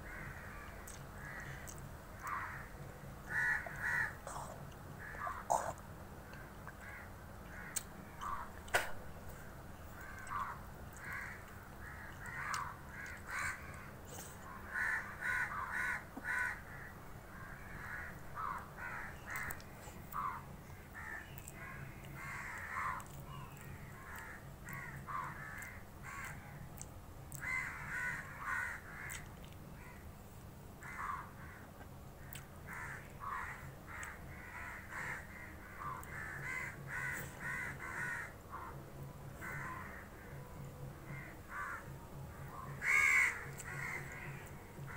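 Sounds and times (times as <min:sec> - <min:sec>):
crows cawing: 0:00.1 - 0:05.8, 0:06.6 - 0:08.6, 0:10.0 - 0:26.5, 0:27.4 - 0:29.2, 0:29.8 - 0:30.0, 0:30.8 - 0:40.4, 0:41.0 - 0:42.0, 0:42.6 - 0:44.9.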